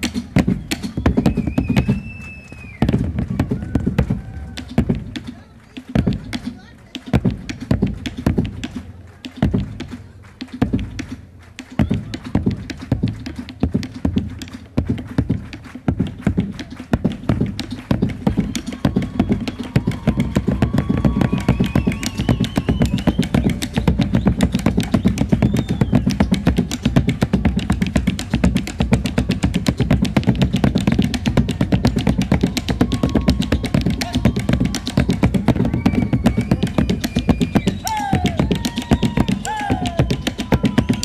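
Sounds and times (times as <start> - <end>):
bass drums beating fast rhythm: 0.0 - 41.0.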